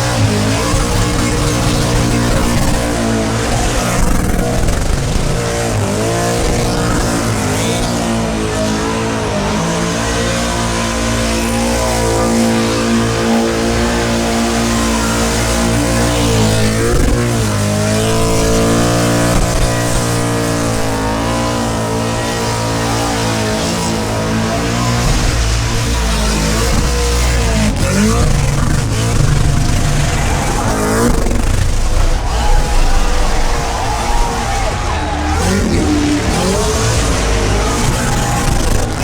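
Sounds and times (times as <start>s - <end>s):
car engine revving high: 0.0s - 39.0s
tyres spinning: 0.0s - 39.0s.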